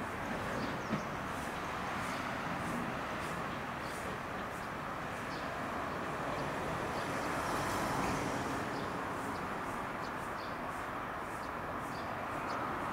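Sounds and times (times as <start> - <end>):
electric train running slowly: 0.0 - 12.9.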